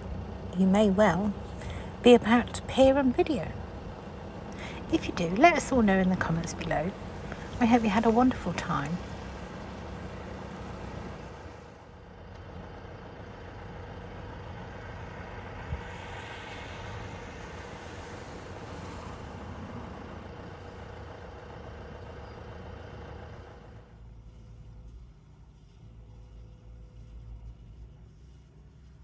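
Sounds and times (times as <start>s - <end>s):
engine humming at idle: 0.0s - 29.0s
faint constant tone: 0.0s - 29.0s.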